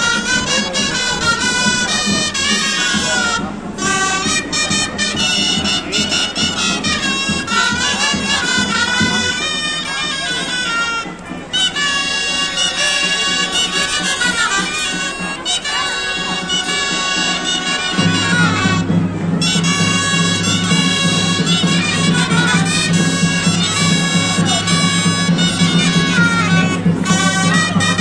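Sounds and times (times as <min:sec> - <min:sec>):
shawms playing a parade tune: 0:00.0 - 0:28.0.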